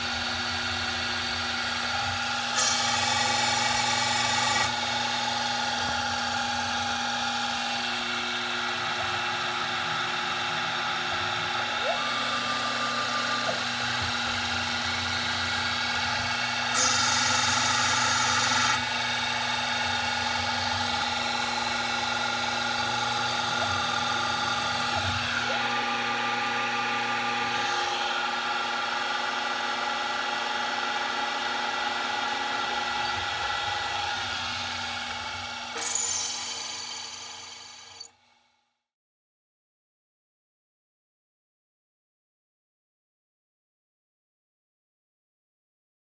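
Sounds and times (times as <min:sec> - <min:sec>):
milling machine whine: 0:00.0 - 0:38.1.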